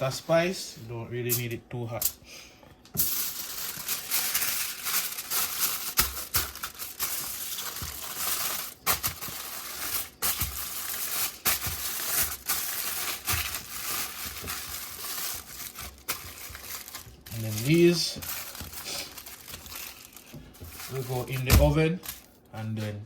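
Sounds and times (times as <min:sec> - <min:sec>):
kitchen foil crinkling: 0:03.0 - 0:22.5.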